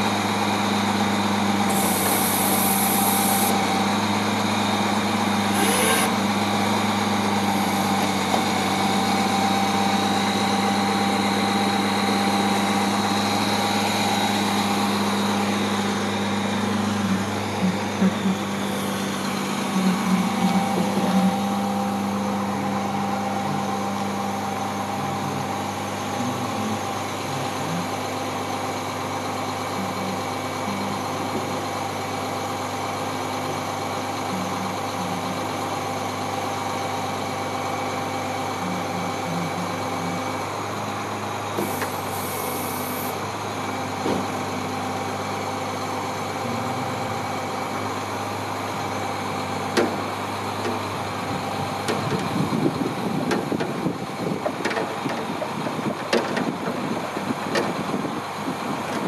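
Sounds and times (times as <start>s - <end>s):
hydraulic pump whine: 0.0s - 59.0s
truck engine idling: 0.0s - 59.0s.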